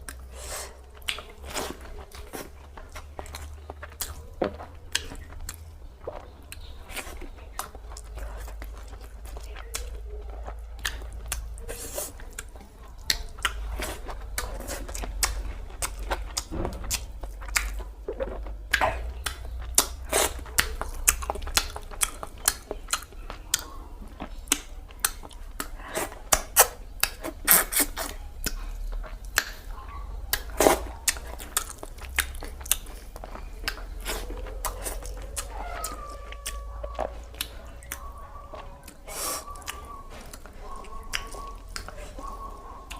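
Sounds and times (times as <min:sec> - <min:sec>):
low steady hum: 0:00.0 - 0:42.9
person chewing and smacking: 0:00.0 - 0:42.9.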